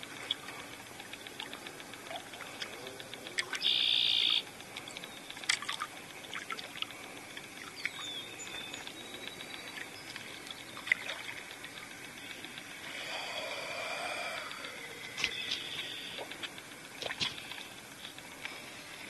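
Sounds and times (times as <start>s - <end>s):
faint water trickling: 0.0s - 19.0s
small ticks: 0.0s - 19.0s.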